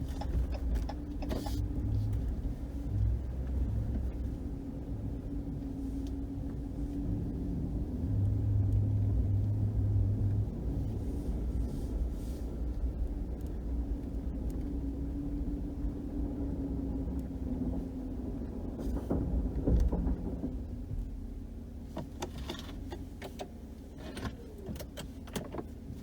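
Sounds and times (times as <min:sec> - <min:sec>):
pickup engine and road noise: 0:00.0 - 0:26.0.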